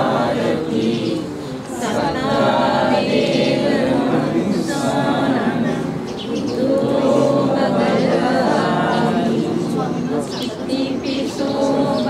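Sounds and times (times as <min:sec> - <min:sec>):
group chanting in unison: 0:00.0 - 0:12.0.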